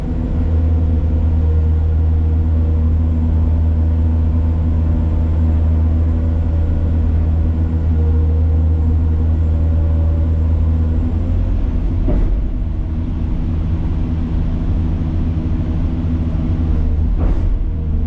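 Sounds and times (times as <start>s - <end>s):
heavy machine engine droning: 0.0s - 18.0s.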